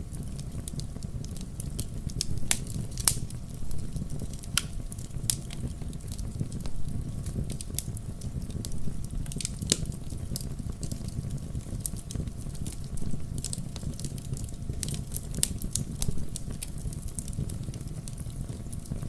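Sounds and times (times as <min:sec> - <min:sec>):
campfire crackling: 0:00.0 - 0:19.0
fire rumbling: 0:00.0 - 0:19.0.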